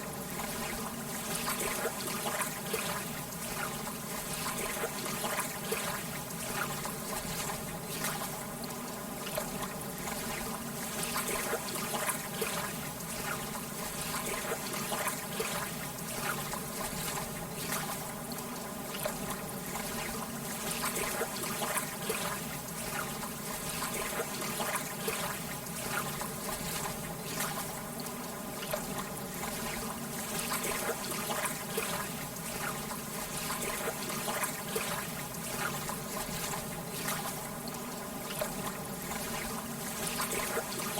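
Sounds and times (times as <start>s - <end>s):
water lapping at shore: 0.0s - 40.9s.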